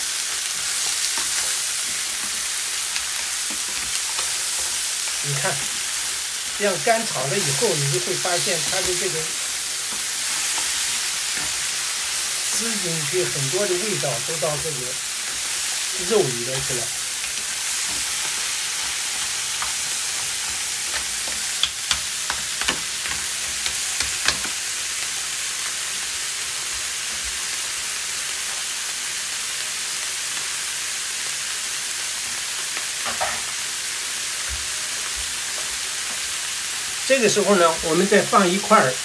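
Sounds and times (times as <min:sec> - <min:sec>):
crab sizzling in frying pan: 0:00.0 - 0:39.0.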